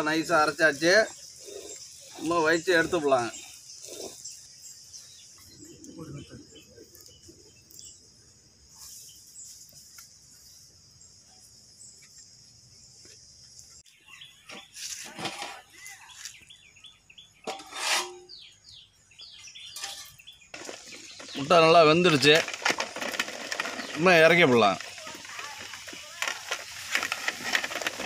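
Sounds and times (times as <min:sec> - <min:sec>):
birds chirping and trilling: 0:00.0 - 0:28.0.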